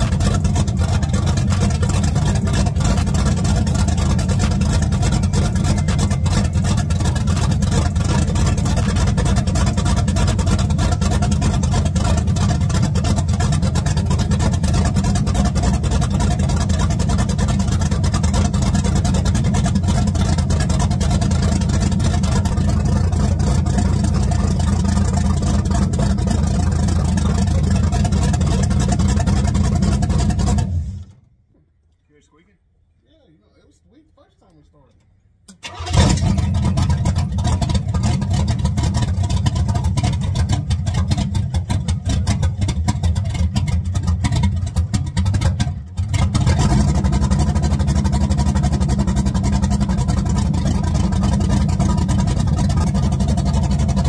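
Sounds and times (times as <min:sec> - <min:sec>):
car engine running steadily: 0:00.0 - 0:31.4, 0:35.6 - 0:54.0.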